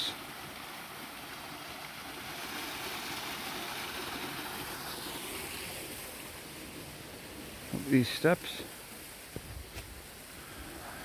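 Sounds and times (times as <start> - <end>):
waterfall splashing into brook: 0.0 - 10.4.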